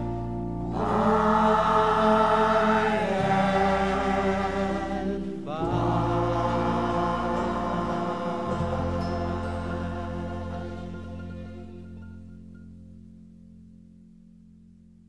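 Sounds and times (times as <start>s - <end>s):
choir singing held chords: 0.0s - 12.2s.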